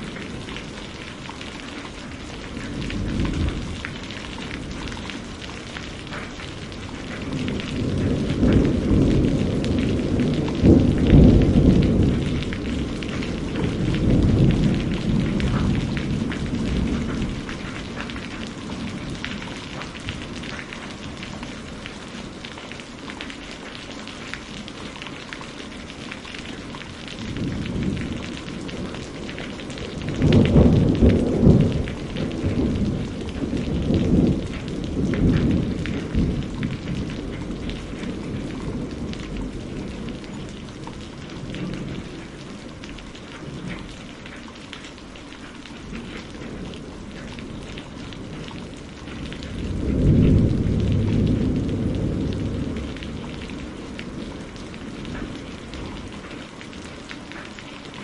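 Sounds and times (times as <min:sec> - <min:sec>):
steady rain: 0:00.0 - 0:58.0
rolling thunder: 0:02.4 - 0:22.4, 0:26.5 - 0:42.7, 0:45.9 - 0:56.4.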